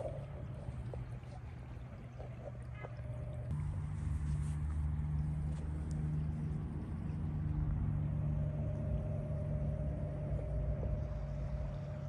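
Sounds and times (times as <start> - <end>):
engine drone: 0.0 - 12.0
higher engine tone: 0.0 - 12.0.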